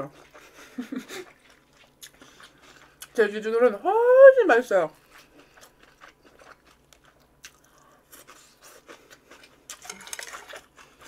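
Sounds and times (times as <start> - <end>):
chewing and mouth clicks: 0.0 - 3.2, 5.0 - 11.0.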